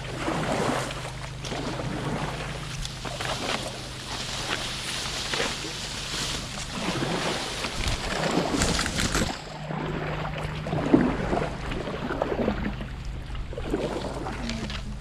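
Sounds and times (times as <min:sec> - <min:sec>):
paddle strokes splashing: 0:00.0 - 0:15.0
running water: 0:00.0 - 0:15.0.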